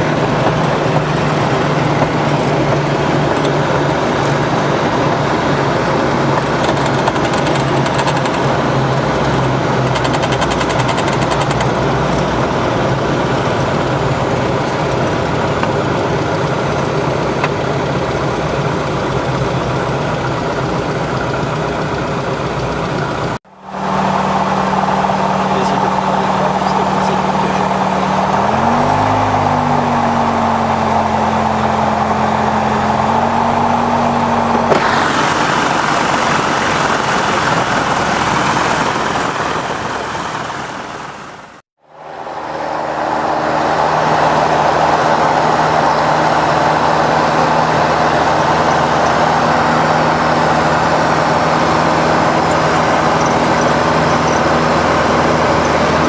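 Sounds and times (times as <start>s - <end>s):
aircraft engine running: 0.0s - 56.0s.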